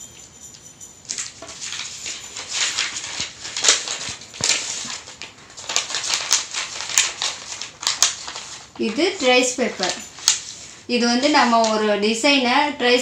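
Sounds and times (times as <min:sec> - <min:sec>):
thin paper rustling and crackling: 0:01.2 - 0:11.9.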